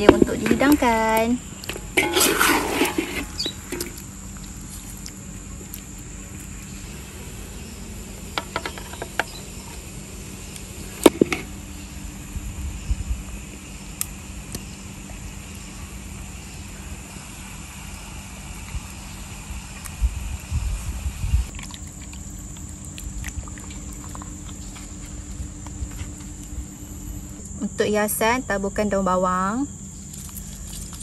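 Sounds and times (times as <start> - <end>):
faint background hum: 0.0 - 31.0.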